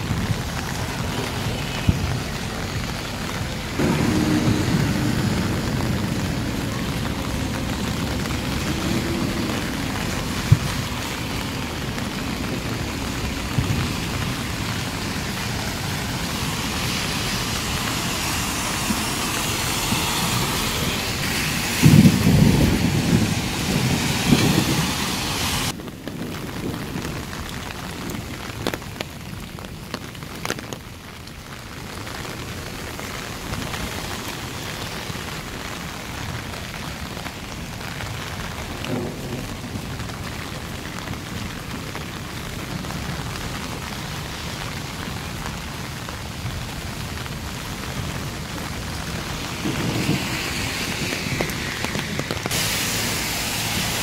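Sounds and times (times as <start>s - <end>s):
thunder rumble: 0.0s - 30.4s, 31.5s - 54.0s
heavy rain on wet pavement: 0.0s - 54.0s
light rain pattering: 0.0s - 54.0s.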